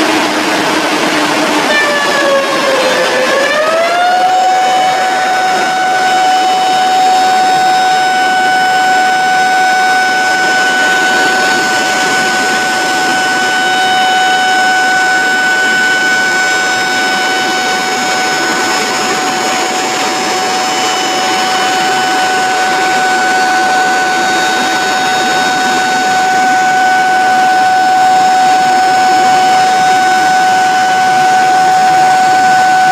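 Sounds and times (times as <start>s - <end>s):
steady siren tone: 0.0s - 32.9s.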